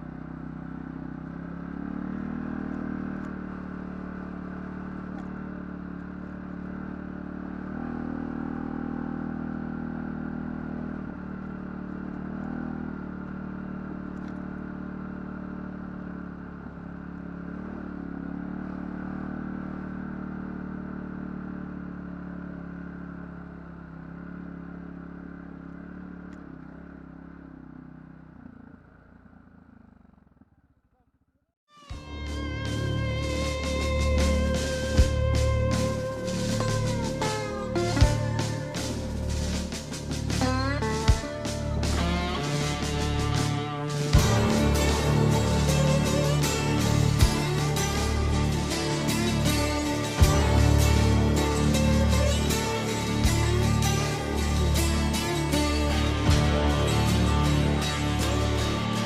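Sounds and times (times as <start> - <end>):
atv engine running: 0.0 - 31.0, 31.9 - 59.0.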